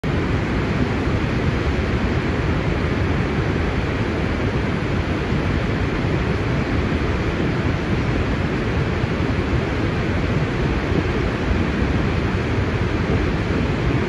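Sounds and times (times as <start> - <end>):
water rushing down dam spillway: 0.1 - 14.0.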